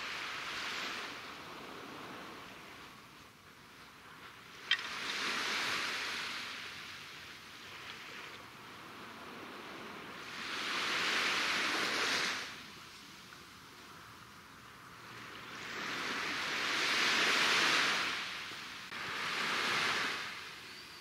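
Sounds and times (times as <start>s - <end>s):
small waves washing on sand: 0.0s - 20.7s.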